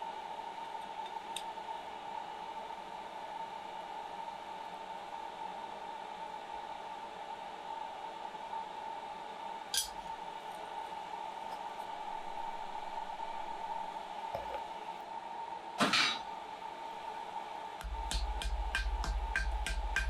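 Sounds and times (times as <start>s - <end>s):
forge humming and hissing: 0.0s - 20.0s.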